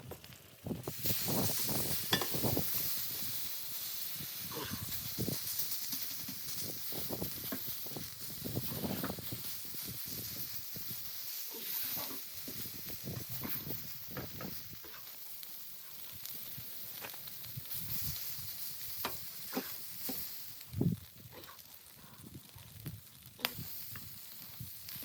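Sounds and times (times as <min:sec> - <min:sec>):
steady hiss: 0:00.6 - 0:25.0.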